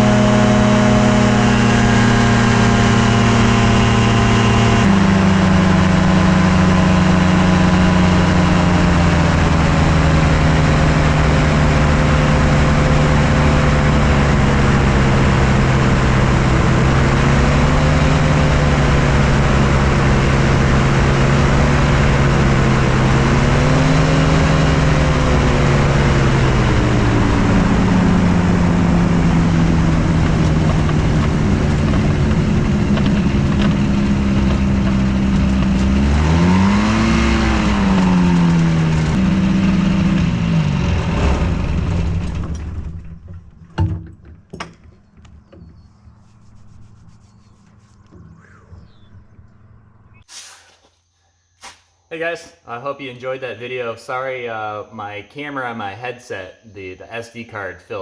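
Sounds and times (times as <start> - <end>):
ultralight aircraft engine drone: 0.0 - 43.8, 44.5 - 50.3.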